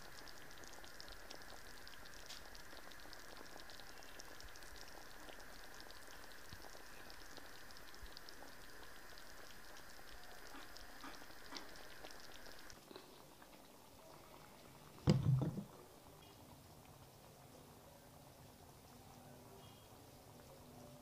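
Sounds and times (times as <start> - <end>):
soup bubbling in a pot: 0.0 - 21.0
steady hiss: 0.0 - 21.0.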